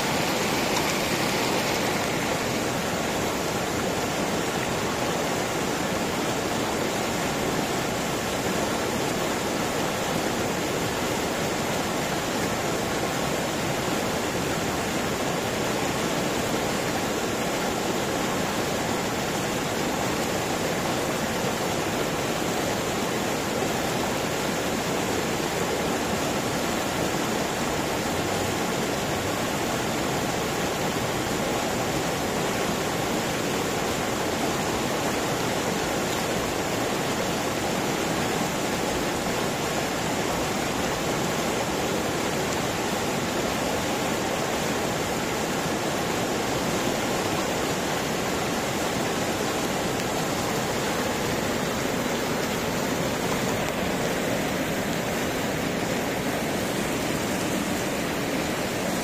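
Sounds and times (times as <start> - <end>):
river rapids rushing over rocks: 0.0 - 59.0.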